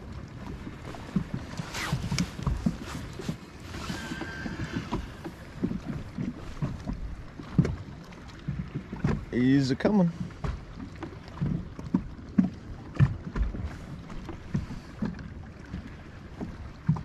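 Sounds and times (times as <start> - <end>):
waves slapping boat hull: 0.0 - 17.0.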